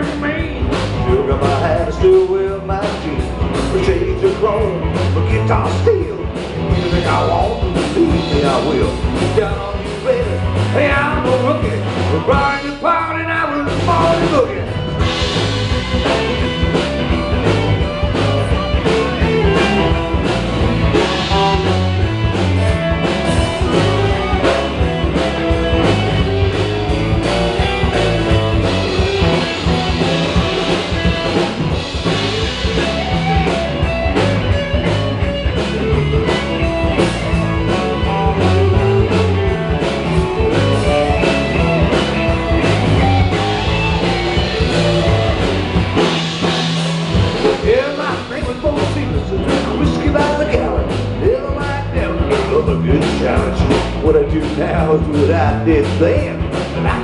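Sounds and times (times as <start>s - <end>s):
electric guitar: 0.0s - 57.0s
rock and roll band playing: 0.0s - 57.0s.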